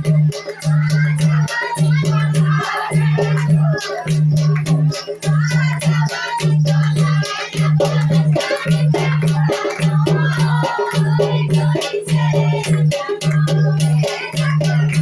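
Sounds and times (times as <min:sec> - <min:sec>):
quick percussion strokes: 0:00.0 - 0:15.0.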